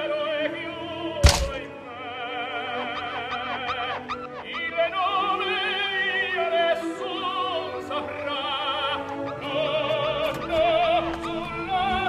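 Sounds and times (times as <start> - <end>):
operatic singing with vibrato: 0.0 - 12.0.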